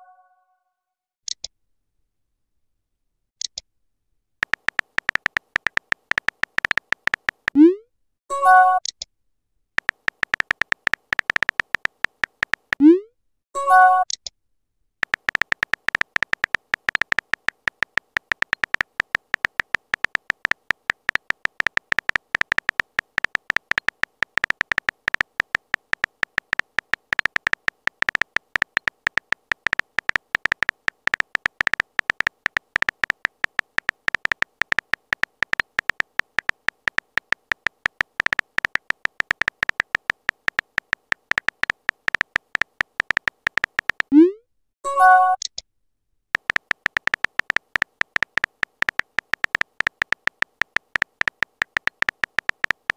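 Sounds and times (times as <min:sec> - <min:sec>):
keyboard typing clicks: 0:04.4 - 0:07.8, 0:09.8 - 0:13.0, 0:15.0 - 0:44.4, 0:46.4 - 0:52.9.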